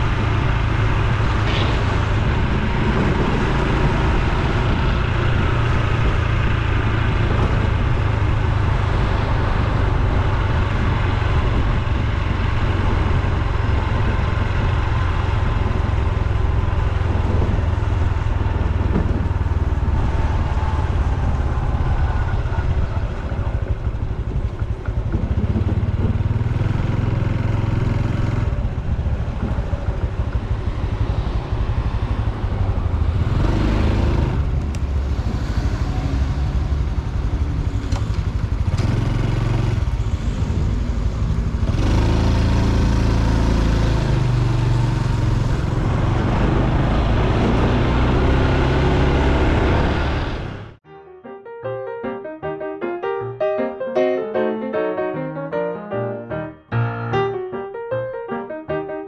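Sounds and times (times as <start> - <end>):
motorcycle engine running: 0.0 - 50.8
rushing wind: 0.0 - 50.8.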